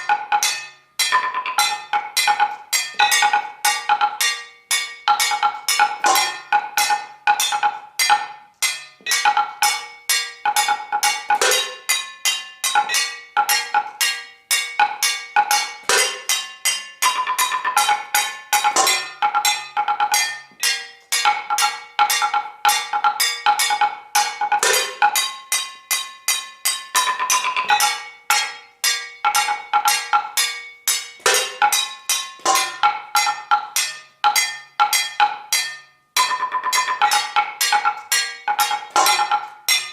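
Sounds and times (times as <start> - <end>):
metal objects struck in fast rhythm: 0.0 - 39.9.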